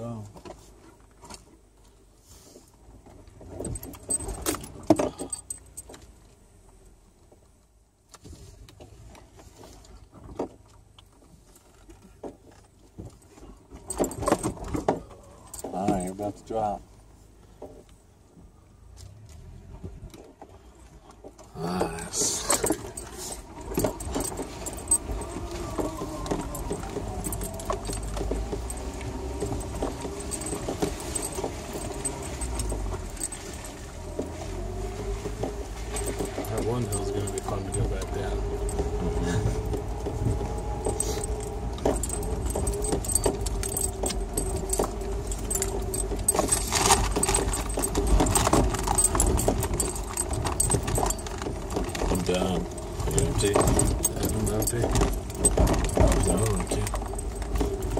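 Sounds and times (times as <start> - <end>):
vehicle cabin rattling: 2.9 - 6.4, 8.2 - 57.9
loose items jangling and clattering: 3.4 - 6.2, 9.8 - 16.9, 21.2 - 57.9
low engine rumble: 10.8 - 57.9.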